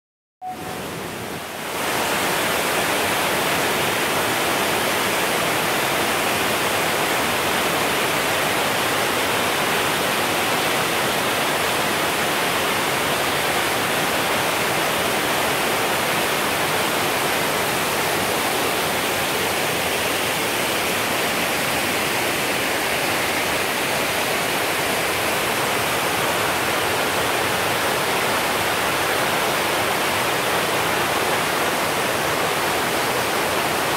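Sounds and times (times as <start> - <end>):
stream rushing over rocks: 0.4 - 33.9
waterfall roar: 0.4 - 33.9.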